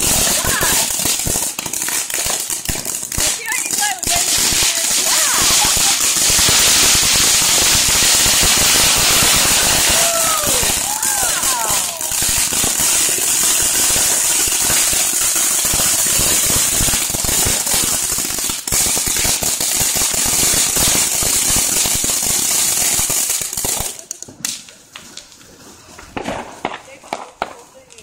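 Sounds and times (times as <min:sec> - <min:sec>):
firework fountain hissing: 0:00.0 - 0:24.2
rapid firework crackling: 0:00.0 - 0:28.0.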